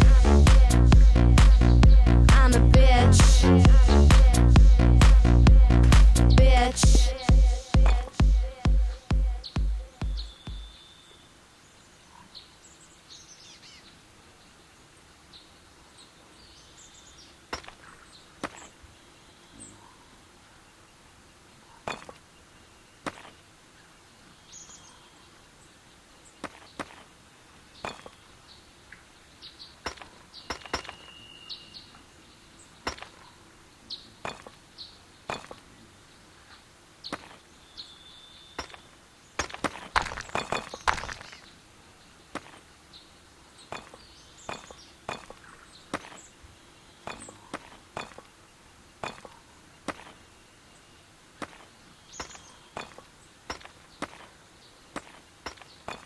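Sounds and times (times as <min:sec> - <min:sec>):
birds chirping: 0:00.0 - 0:27.0, 0:27.6 - 0:56.0.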